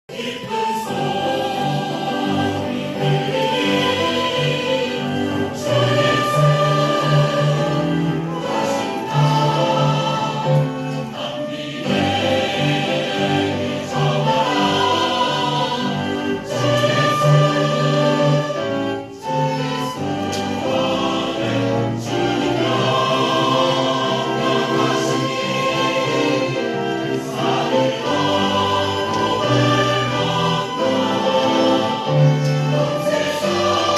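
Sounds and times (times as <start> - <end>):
church choir singing: 0.1 - 33.9.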